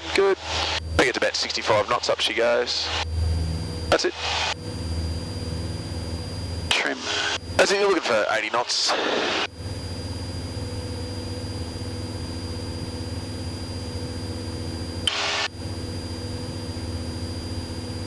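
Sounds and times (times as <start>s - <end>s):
airplane engine drone with whine: 0.0s - 18.0s.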